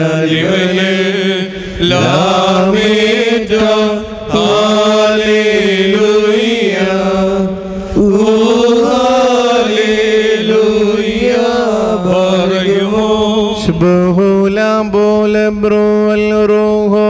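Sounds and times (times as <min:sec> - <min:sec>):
person chanting a hymn: 0:00.0 - 0:17.0.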